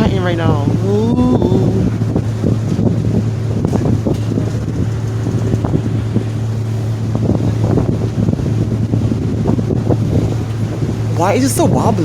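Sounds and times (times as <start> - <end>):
ferry engines humming: 0.0 - 12.0
wind rumbling on microphone: 0.0 - 12.0.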